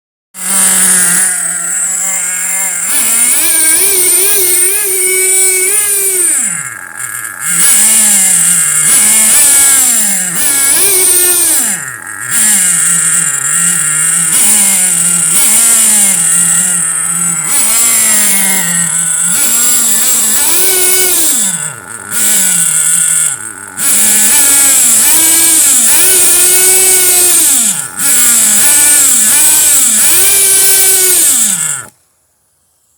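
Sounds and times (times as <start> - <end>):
small nitro engine revving: 0.4 - 32.0.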